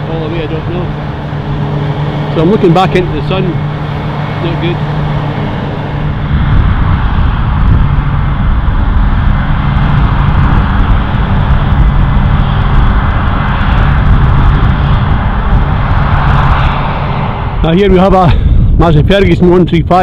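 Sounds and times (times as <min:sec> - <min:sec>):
harvester engine drone: 0:00.0 - 0:20.0.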